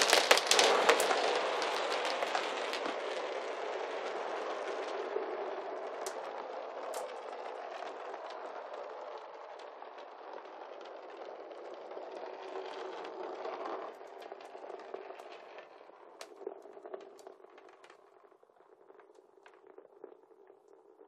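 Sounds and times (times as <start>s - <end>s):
marbles rolling and clattering: 0.0s - 21.0s.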